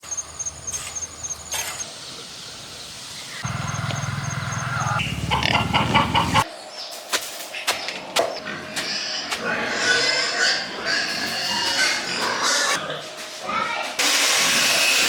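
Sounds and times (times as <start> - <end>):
pigs calling: 0.1 - 6.5, 7.6 - 13.8.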